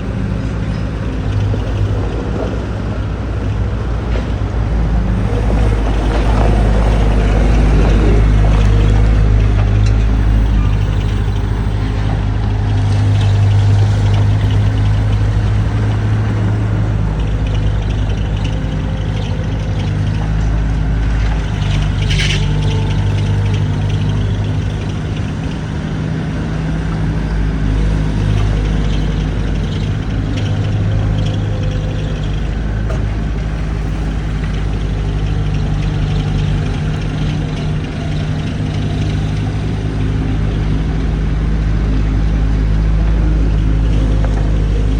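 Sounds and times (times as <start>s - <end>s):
heavy machine engine running: 0.0s - 44.9s.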